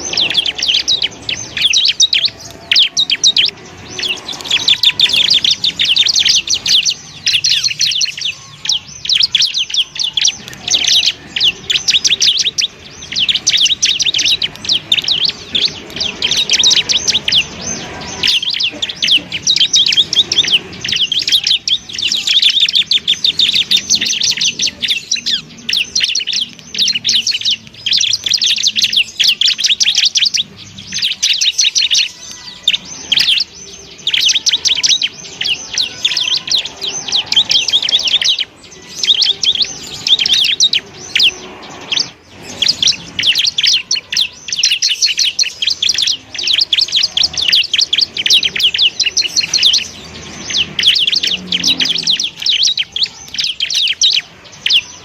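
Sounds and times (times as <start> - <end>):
bird singing chattering song: 0.0 - 55.0.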